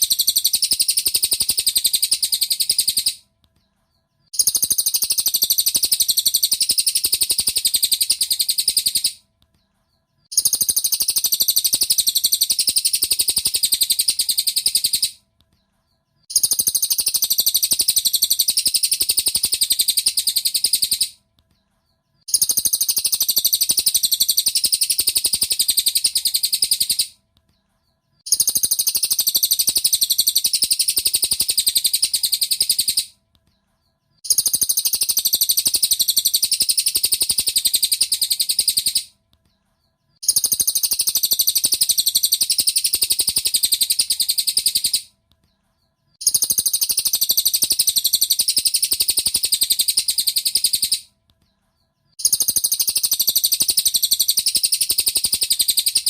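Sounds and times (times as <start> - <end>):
bird chirping rapidly: 0.0 - 3.3, 3.9 - 9.2, 9.9 - 15.2, 15.8 - 21.2, 22.2 - 27.2, 28.1 - 33.2, 33.8 - 39.2, 40.1 - 45.1, 46.1 - 51.1, 52.1 - 56.0.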